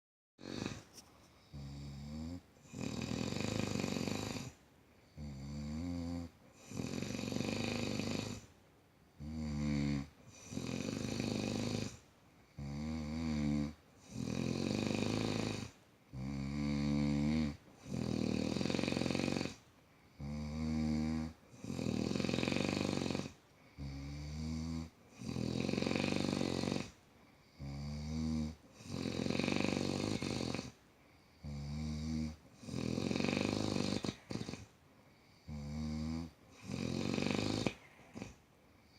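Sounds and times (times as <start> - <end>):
man snoring: 0.4 - 8.5, 9.2 - 34.7, 35.3 - 38.9.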